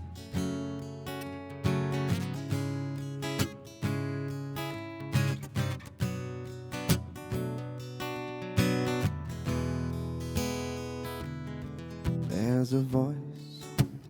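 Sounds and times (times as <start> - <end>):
guitar strumming slow chords: 0.0 - 14.0.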